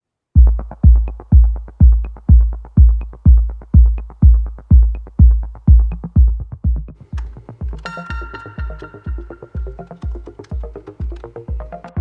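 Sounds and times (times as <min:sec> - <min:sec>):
electronic dance music: 0:00.4 - 0:12.0.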